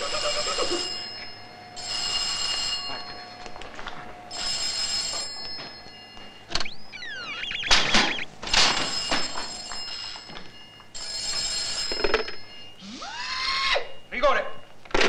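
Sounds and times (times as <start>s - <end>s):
telephone bell ringing: 0.0s - 14.7s.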